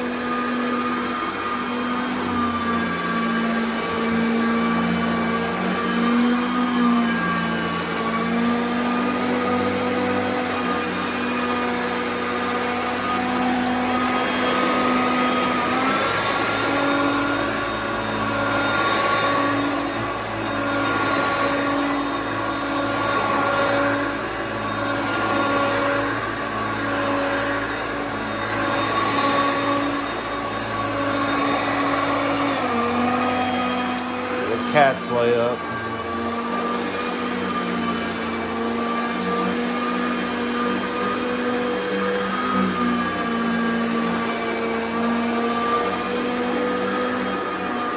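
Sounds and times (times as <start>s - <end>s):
vacuum cleaner running over carpet: 0.0s - 47.9s.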